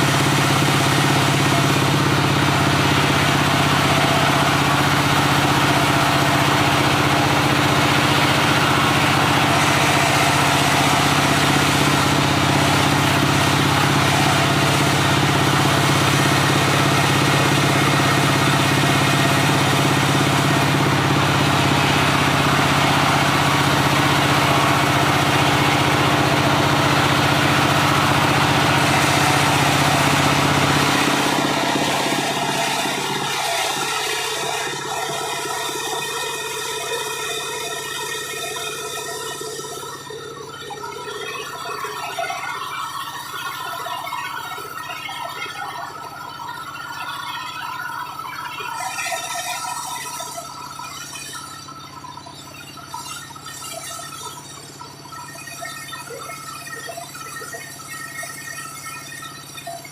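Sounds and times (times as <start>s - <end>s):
diesel engine running sawmill: 0.0s - 59.9s.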